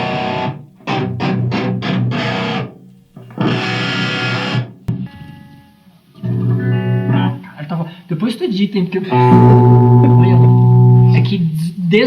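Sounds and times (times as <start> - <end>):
distorted electric guitar riff: 0.0 - 7.4, 9.1 - 11.6.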